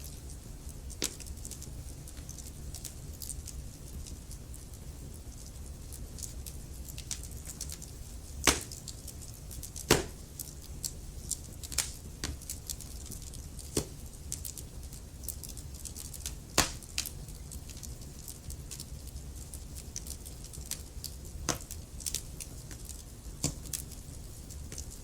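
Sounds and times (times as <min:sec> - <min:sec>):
burning logs crackling: 0:00.0 - 0:25.0.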